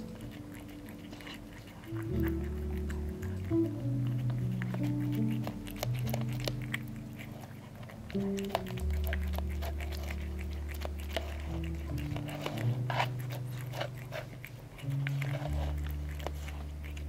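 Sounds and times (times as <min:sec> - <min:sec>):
background music low held notes: 0:00.0 - 0:17.0
cat chewing food: 0:00.0 - 0:17.0.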